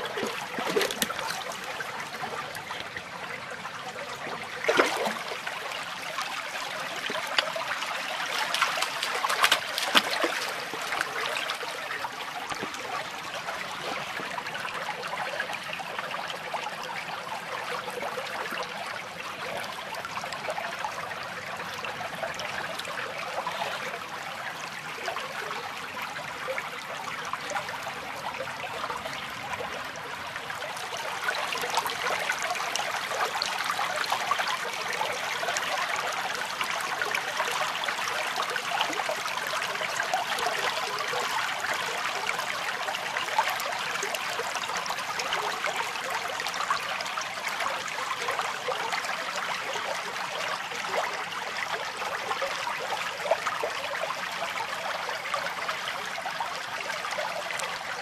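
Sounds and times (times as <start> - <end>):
stream running and trickling: 0.0 - 58.0.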